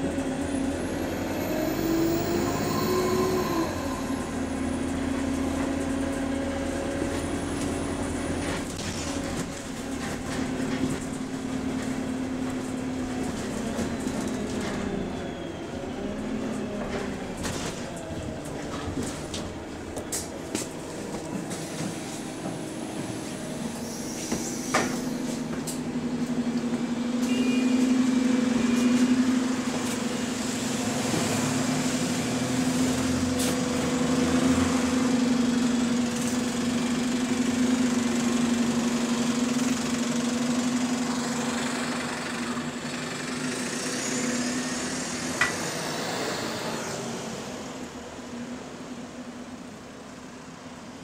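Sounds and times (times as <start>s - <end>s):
bus engine droning: 0.0s - 51.0s.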